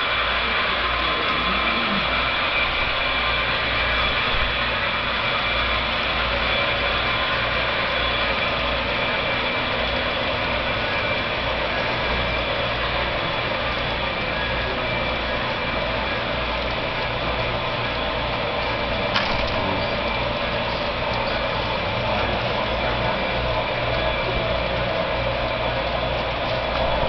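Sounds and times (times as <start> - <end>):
high steady whines: 0.0 - 27.0
model trains rumbling and humming: 0.0 - 27.0.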